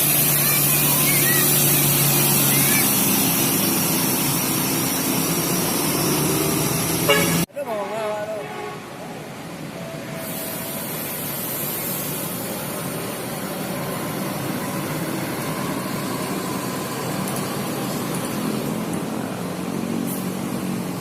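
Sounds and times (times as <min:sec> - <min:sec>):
bus engine running: 0:00.0 - 0:21.0
busy terminal noise: 0:00.0 - 0:21.0.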